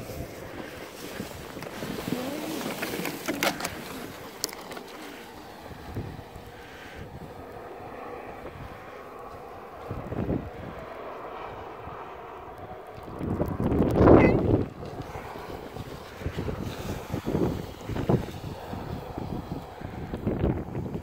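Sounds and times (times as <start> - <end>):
plastic sled scraping on snow: 0.0 - 9.9, 13.4 - 21.0
wind buffeting microphone: 0.0 - 21.0.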